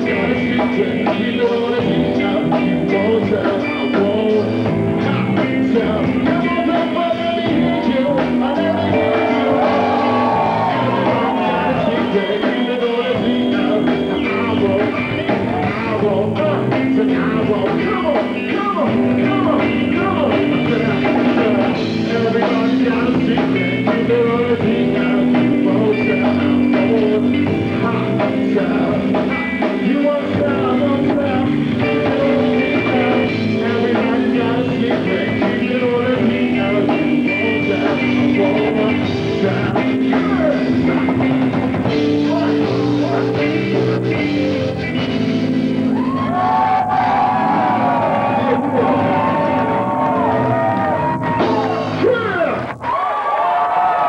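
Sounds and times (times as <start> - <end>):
man singing into a microphone: 0.0 - 45.1
drums: 0.0 - 54.0
electric guitar: 0.0 - 54.0.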